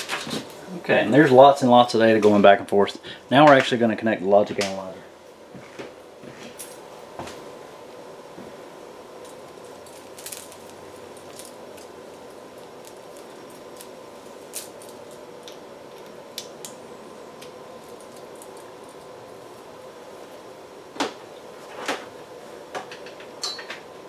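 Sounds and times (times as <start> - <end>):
steady low hum: 0.0 - 24.0
wires rustling: 0.0 - 24.0.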